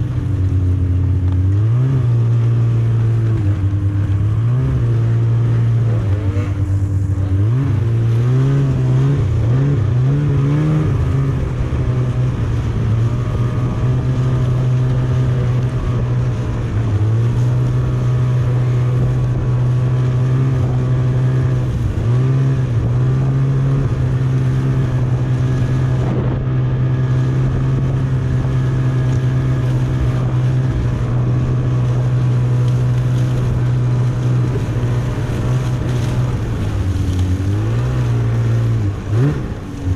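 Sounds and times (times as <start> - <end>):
snowmobile engine running hard: 0.0 - 39.9.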